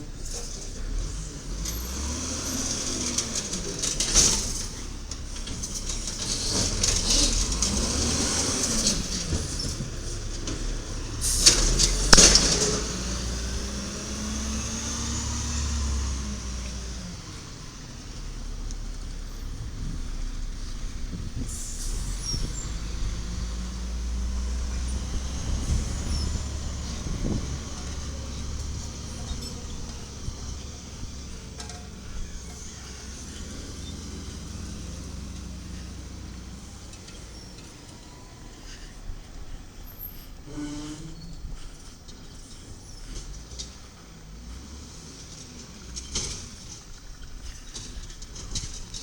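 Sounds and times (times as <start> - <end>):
garbage truck engine running: 0.0 - 49.0.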